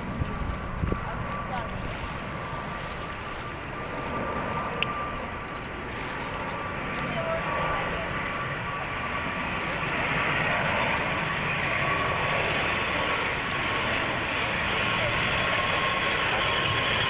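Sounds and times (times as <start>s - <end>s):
turboprop airplane engines humming: 0.0s - 17.0s.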